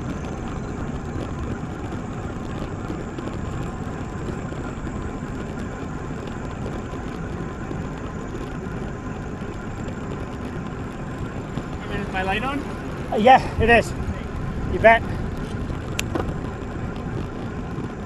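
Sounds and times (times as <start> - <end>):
wind and road rushing noise: 0.0 - 18.0.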